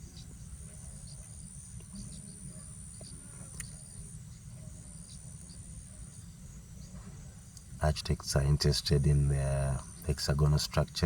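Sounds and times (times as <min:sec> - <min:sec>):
faint bird chirps: 0:00.0 - 0:11.0
insect trill: 0:00.0 - 0:11.0.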